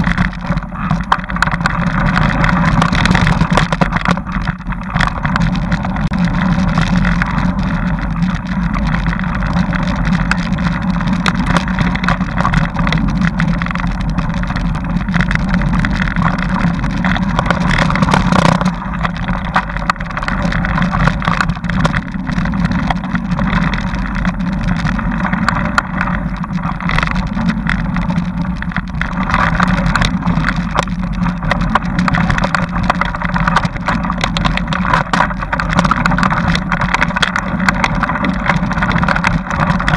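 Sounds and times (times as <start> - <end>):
bike rattling and jolting: 0.0 - 39.9
loud steady drone: 0.0 - 39.9.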